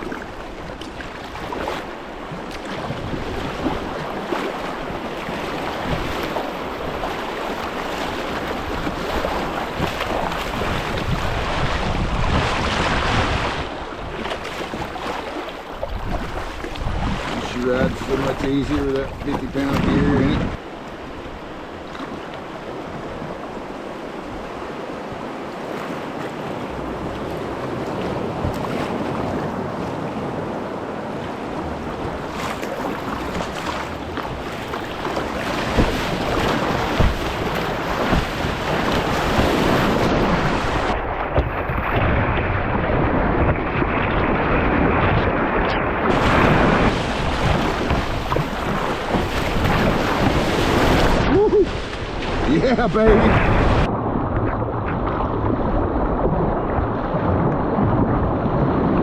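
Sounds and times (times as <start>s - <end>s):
river water rushing: 0.0s - 41.0s, 45.4s - 53.9s
water splashes: 0.0s - 59.0s.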